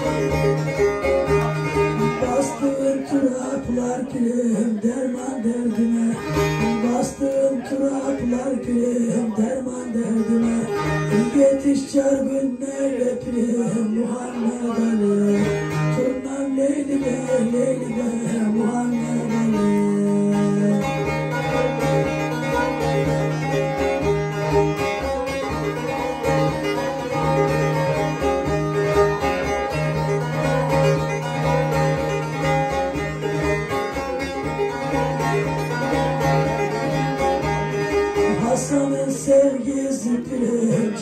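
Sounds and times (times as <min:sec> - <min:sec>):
plucked long-necked lute melody: 0:00.0 - 0:41.0.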